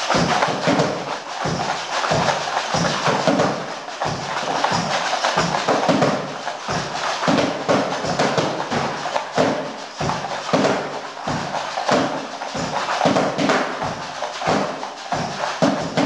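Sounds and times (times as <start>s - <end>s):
cardboard box drums thudding: 0.1s - 16.0s.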